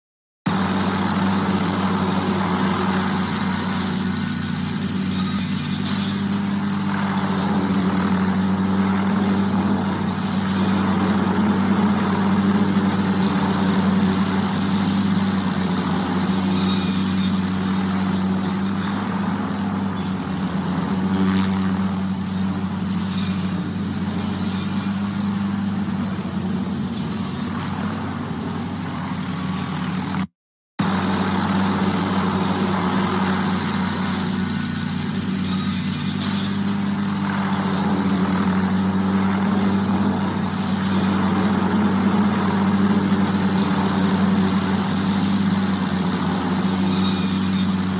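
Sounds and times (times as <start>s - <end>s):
saw running: 0.5s - 30.2s, 30.8s - 47.9s
helicopter engine drone: 0.5s - 47.9s.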